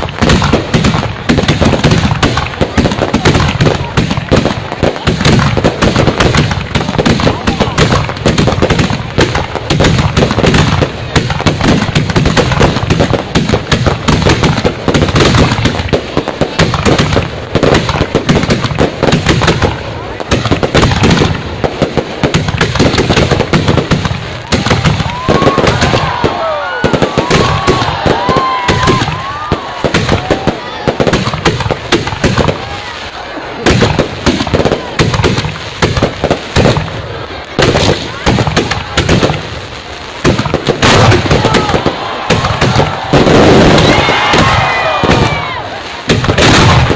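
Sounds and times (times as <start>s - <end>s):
fireworks crackling: 0.0s - 46.9s.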